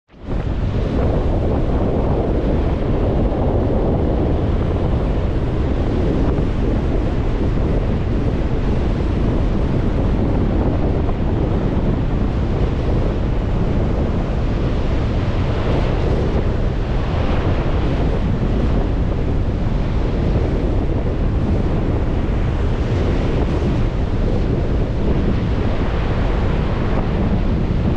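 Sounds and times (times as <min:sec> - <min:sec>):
wind buffeting microphone: 0:00.1 - 0:27.9
lake waves washing onto shore: 0:00.2 - 0:27.9.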